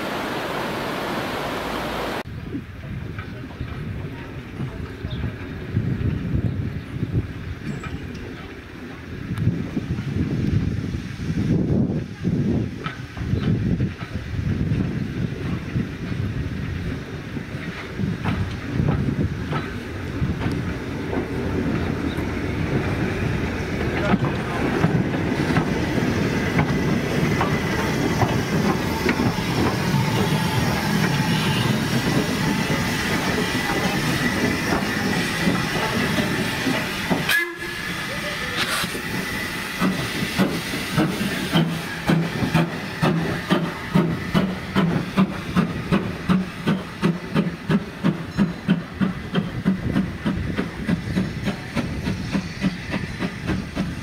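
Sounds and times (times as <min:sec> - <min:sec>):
steam train rumbling: 0:00.0 - 0:54.0.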